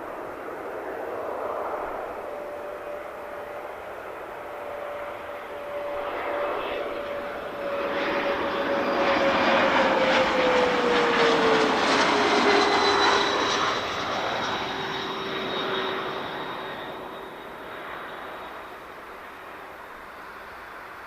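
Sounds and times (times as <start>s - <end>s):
airliner engine roar overhead: 0.0s - 21.0s.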